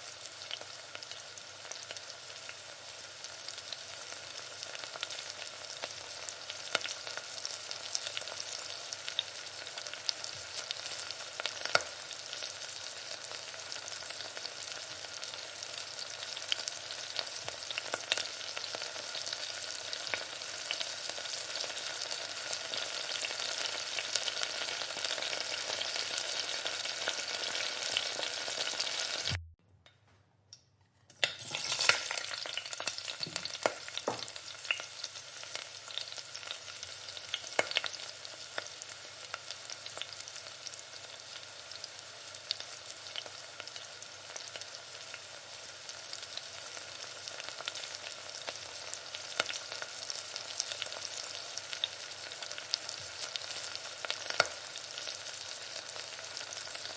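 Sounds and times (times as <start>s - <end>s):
food sizzling in a pan: 0.0s - 29.4s, 31.2s - 56.9s.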